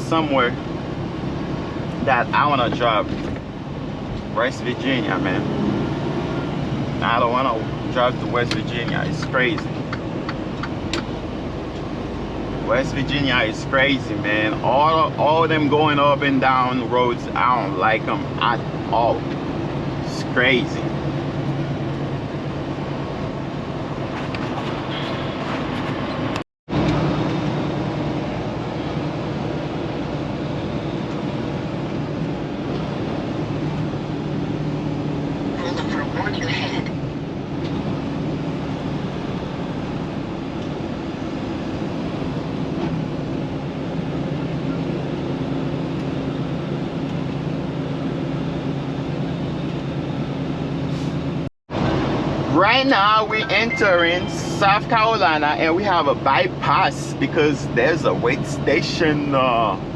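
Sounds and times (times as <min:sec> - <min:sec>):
road noise: 0:00.0 - 0:59.9
truck engine drone: 0:00.0 - 0:59.9.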